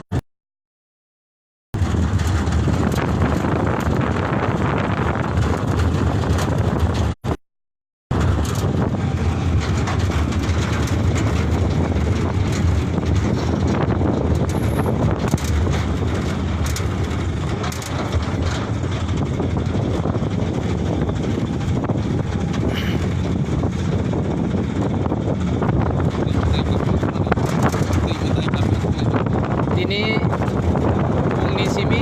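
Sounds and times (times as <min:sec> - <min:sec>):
truck rumble and road noise: 0:01.8 - 0:07.4, 0:08.1 - 0:32.0.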